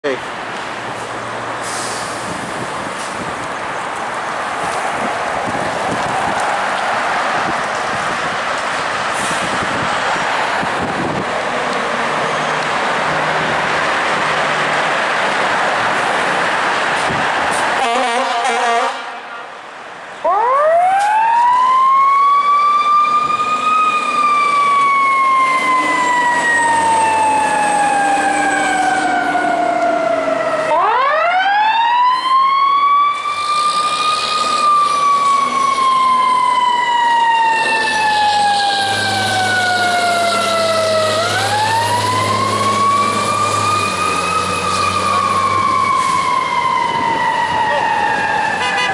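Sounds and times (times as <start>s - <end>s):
fire truck siren wailing: 1.5s - 19.6s, 20.2s - 48.9s.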